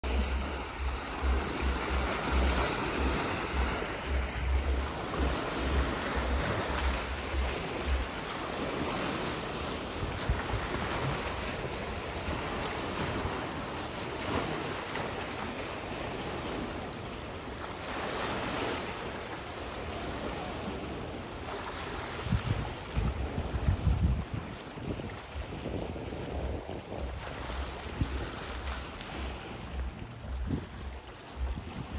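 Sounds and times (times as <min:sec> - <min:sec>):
wind buffeting microphone: 0:00.0 - 0:17.0, 0:19.9 - 0:31.9
waves splashing over rocks: 0:00.0 - 0:31.9.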